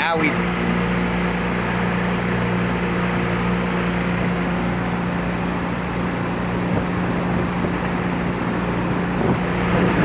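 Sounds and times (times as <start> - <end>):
outboard motor droning: 0.0 - 10.0
rushing churning water: 0.0 - 10.0.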